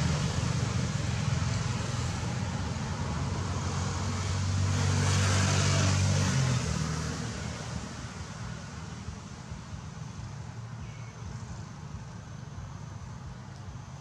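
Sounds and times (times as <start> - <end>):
road noise: 0.0 - 14.0
vehicle engine humming: 0.0 - 14.0.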